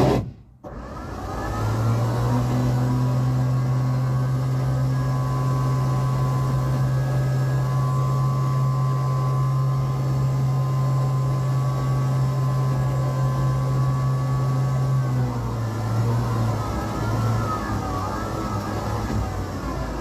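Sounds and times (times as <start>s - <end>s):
diesel engine revving hard: 0.0s - 20.0s.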